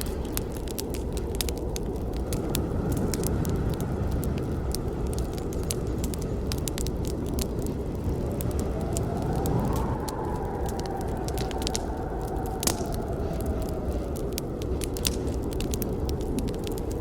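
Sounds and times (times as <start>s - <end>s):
campfire wood crackling: 0.0s - 17.0s
low rush of flames: 0.0s - 17.0s.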